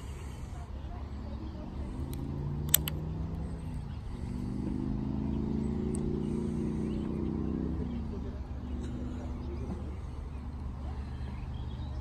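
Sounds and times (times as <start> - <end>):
distant engine running: 0.0 - 12.0.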